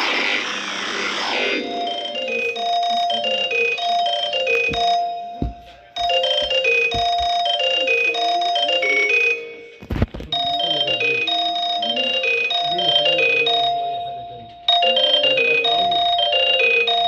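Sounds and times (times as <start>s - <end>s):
electronic ringtone melody: 1.1s - 17.0s.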